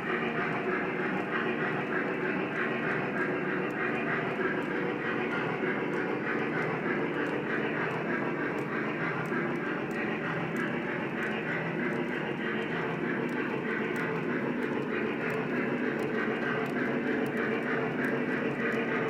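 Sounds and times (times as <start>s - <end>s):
model train rumble on rails: 0.0s - 19.0s.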